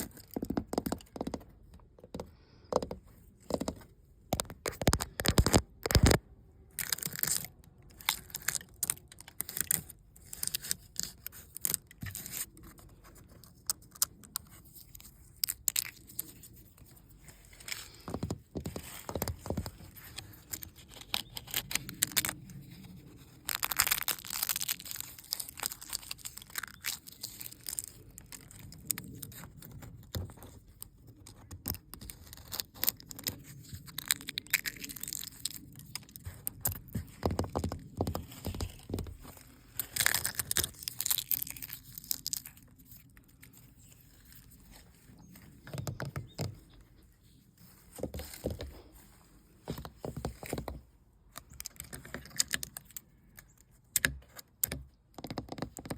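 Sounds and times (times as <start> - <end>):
paint peeling and crackling: 0.0 - 55.9.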